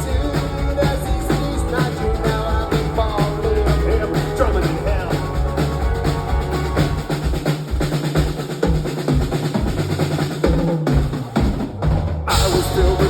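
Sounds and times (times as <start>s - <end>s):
drum kit: 0.0s - 13.0s
live rock band playing: 0.0s - 13.0s.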